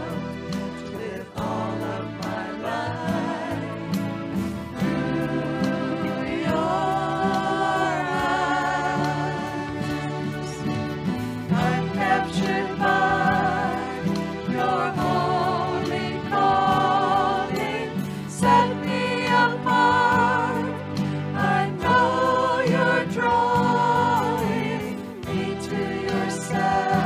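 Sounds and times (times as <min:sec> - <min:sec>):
voices singing worship song: 0:00.0 - 0:27.0.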